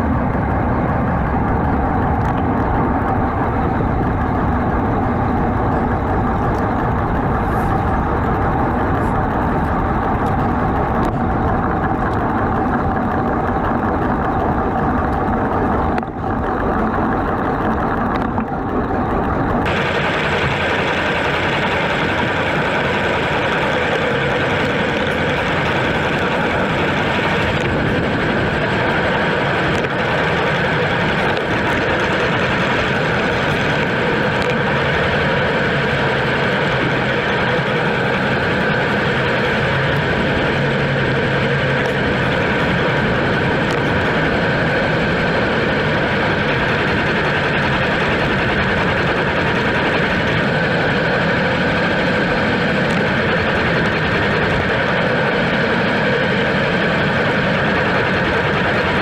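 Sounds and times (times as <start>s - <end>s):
bike tyres rolling on asphalt: 0.0s - 59.0s
wind rushing over microphone: 0.0s - 59.0s.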